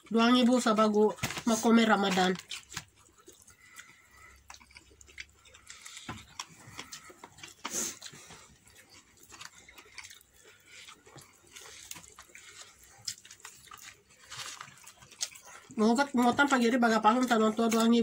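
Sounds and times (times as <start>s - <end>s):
chewing and lip-smacking: 0.0s - 18.0s
crispy breading crackling: 0.0s - 18.0s.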